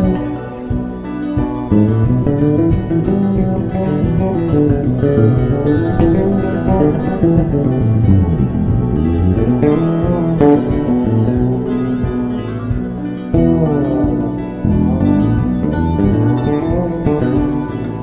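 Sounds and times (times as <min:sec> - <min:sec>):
bass: 0:00.0 - 0:18.0
drums: 0:00.0 - 0:18.0
plucked string melody: 0:00.0 - 0:18.0.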